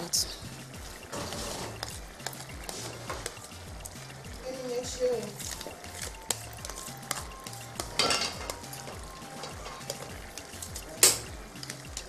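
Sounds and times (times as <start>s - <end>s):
background music with low beat: 0.0s - 12.0s
utensils clinking and scraping pot: 0.8s - 12.0s.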